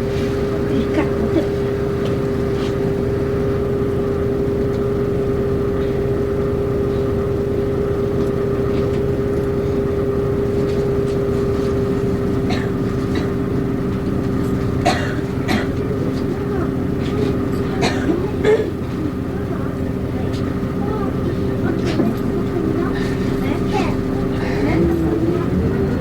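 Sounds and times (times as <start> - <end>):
bus diesel engine drone: 0.0 - 26.0
steady whine: 0.0 - 26.0.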